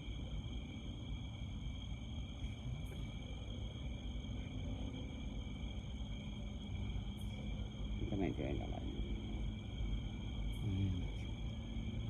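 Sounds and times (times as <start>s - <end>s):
crickets trilling: 0.0s - 12.0s
low background rumble: 0.0s - 12.0s.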